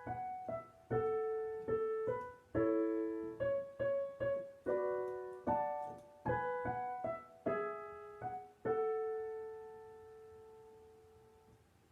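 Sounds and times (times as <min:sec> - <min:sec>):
piano notes: 0:00.0 - 0:11.6.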